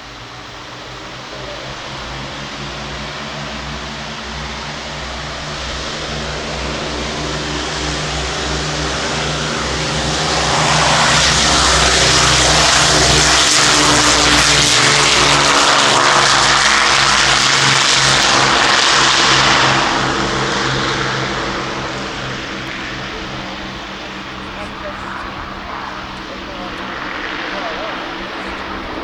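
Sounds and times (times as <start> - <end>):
propeller aircraft flying past: 0.0 - 29.0.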